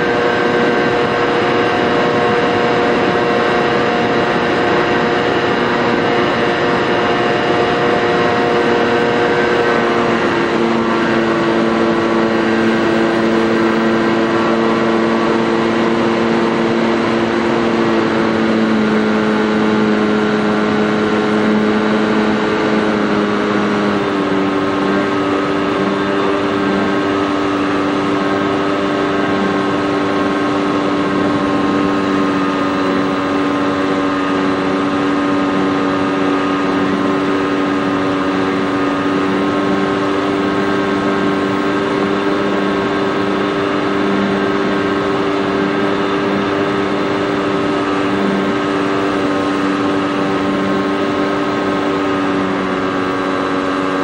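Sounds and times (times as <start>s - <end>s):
model airplane motor running: 0.0s - 54.0s.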